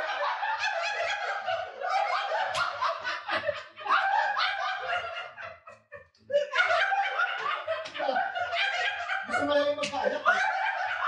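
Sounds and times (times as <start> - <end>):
adults laughing and cackling: 0.0 - 11.0.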